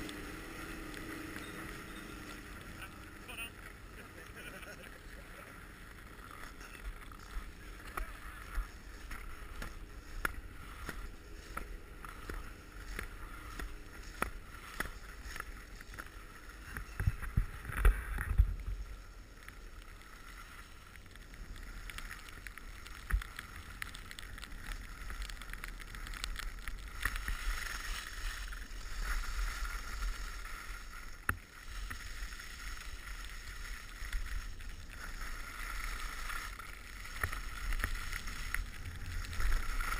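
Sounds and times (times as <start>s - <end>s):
ski scrapes and knocks: 0.0s - 39.9s
skis sliding over snow: 0.0s - 39.9s.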